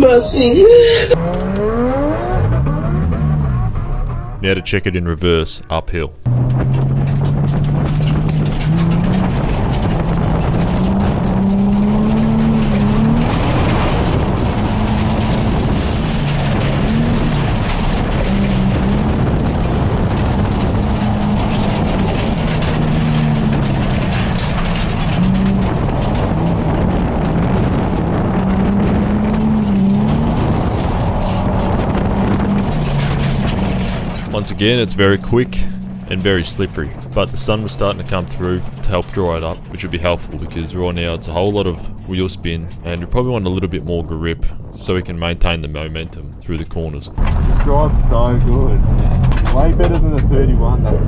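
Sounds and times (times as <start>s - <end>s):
car engine revving: 0.0s - 51.0s
tyre and road noise: 0.0s - 51.0s.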